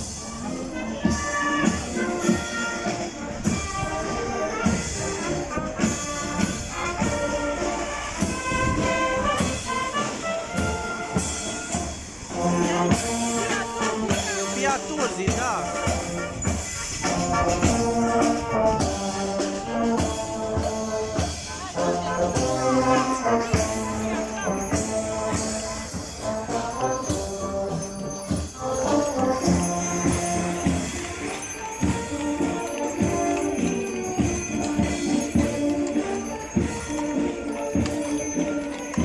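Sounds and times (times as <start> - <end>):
brass band playing: 0.0 - 39.0.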